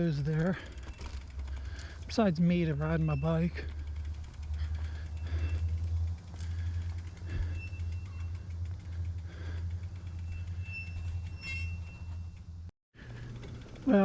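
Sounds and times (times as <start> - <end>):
faint fine ticking: 0.0 - 11.4.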